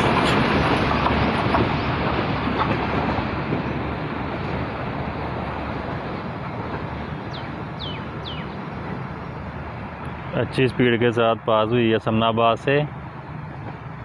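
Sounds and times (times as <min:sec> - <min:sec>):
passenger train passing: 0:00.0 - 0:14.0.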